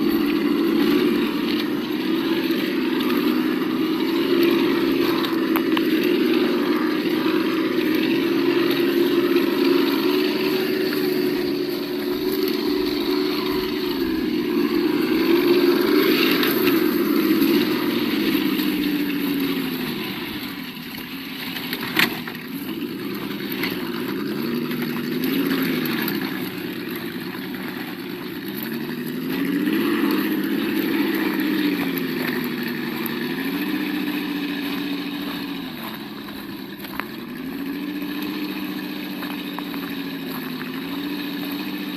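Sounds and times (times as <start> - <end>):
simulated engine sound: 0.0 - 41.9.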